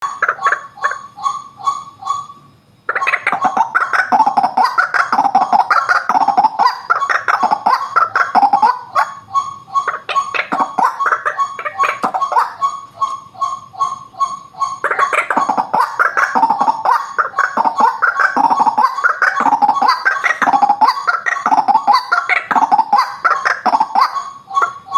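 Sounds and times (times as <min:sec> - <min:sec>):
waterhen calling: 0:00.0 - 0:02.3, 0:02.9 - 0:24.9.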